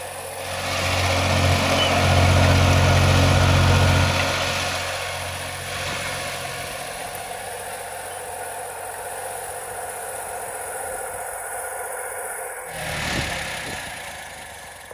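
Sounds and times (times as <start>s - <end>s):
tractor engine running at low speed: 0.0s - 14.9s.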